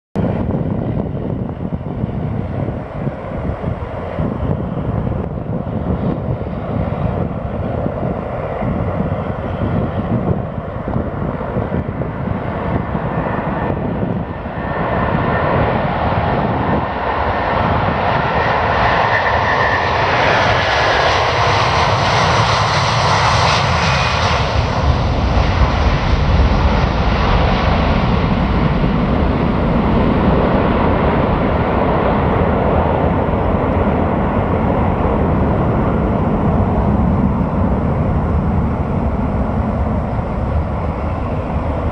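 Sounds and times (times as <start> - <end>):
jet engines roaring at takeoff: 0.2 - 41.9.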